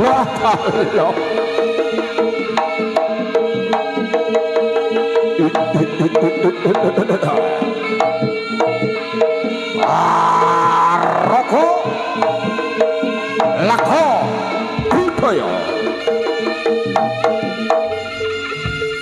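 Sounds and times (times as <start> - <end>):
hand drums: 0.0 - 19.0.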